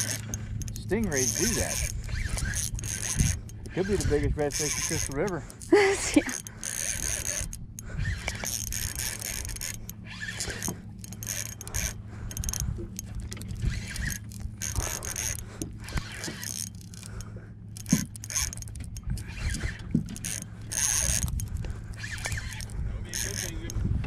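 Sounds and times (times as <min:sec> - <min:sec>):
fishing reel gears whirring: 0:00.0 - 0:24.0
steady low hum: 0:00.0 - 0:24.0.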